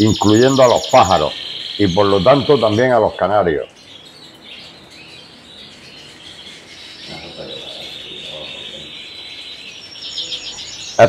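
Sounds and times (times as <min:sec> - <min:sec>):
canary singing trills: 0:00.0 - 0:11.0.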